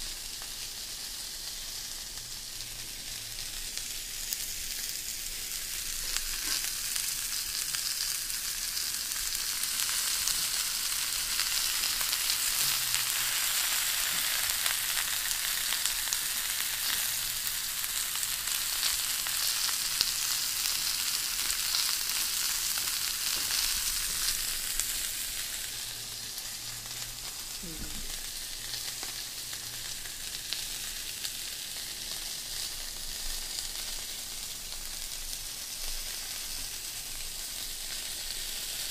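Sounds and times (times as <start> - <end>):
meat sizzling on a grill: 0.0 - 38.9.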